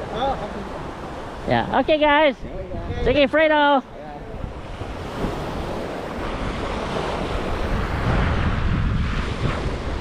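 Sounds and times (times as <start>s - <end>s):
sea waves washing onto beach: 0.0s - 10.0s
wind buffeting microphone: 0.0s - 10.0s.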